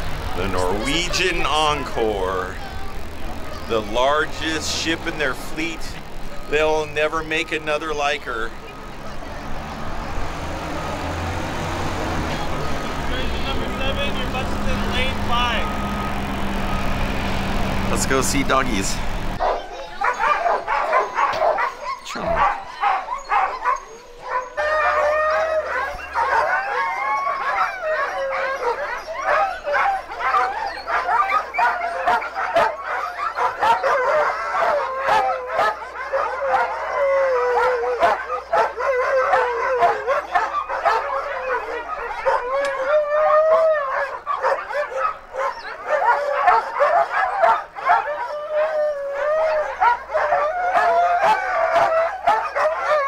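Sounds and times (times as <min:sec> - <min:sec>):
sled dogs barking and howling: 0:00.0 - 0:53.0.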